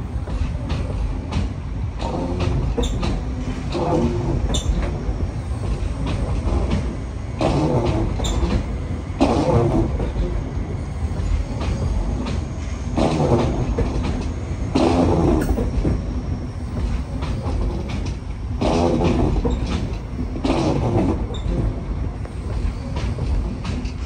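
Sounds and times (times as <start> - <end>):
electric train rolling: 0.0 - 24.0.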